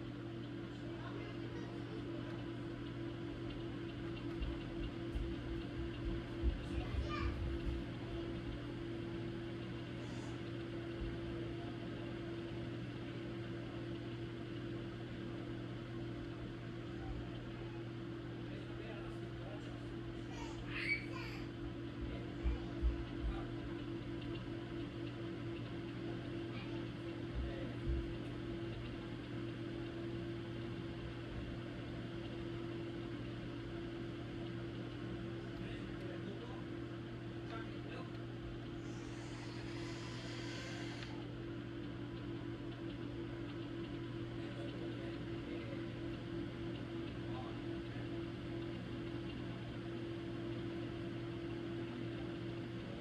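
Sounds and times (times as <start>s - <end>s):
machine hum: 0.0s - 53.0s.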